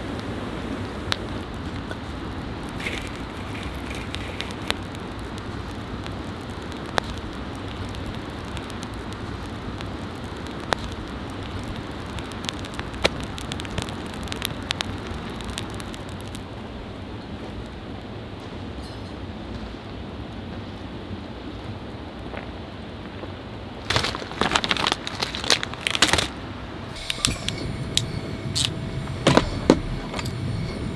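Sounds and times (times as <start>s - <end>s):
firewood crackling and popping: 0.0s - 30.9s
steady low rush of fire: 0.0s - 30.9s.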